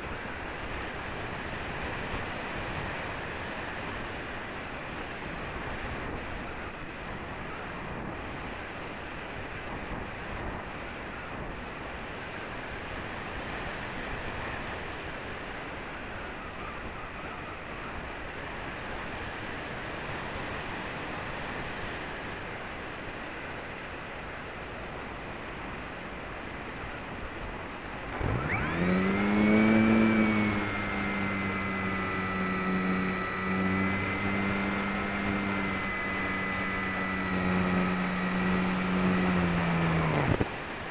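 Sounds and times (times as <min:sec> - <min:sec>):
electric motor and propeller whine: 0:00.0 - 0:24.0, 0:24.9 - 0:40.9.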